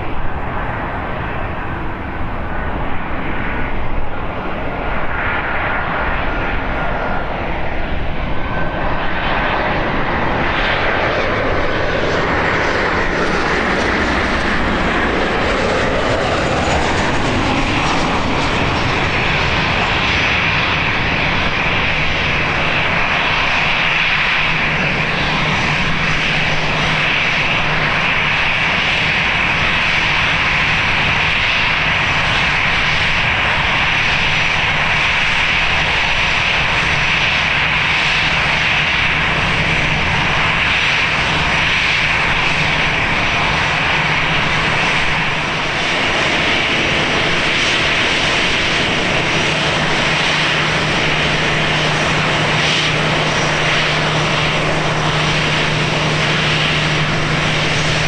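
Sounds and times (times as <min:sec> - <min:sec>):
airliner engines running: 0:00.0 - 0:58.0.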